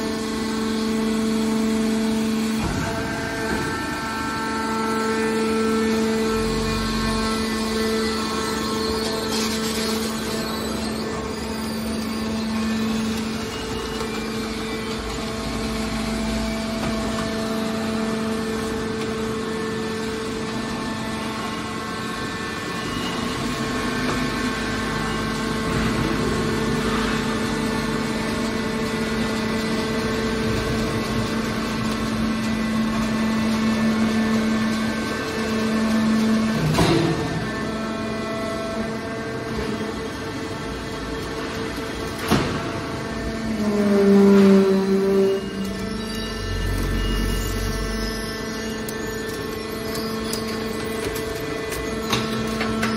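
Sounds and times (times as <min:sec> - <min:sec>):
hydraulic pump motor humming: 0:00.0 - 0:52.9.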